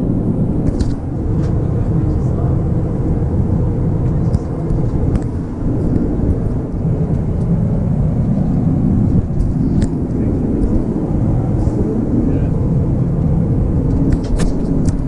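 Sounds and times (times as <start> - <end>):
airplane rumble in flight: 0.0 - 15.0.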